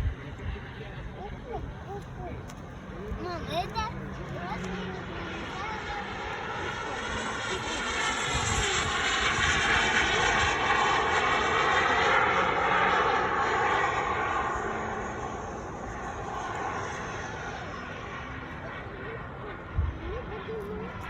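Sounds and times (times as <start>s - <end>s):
model jet engine flying past: 0.0s - 21.0s.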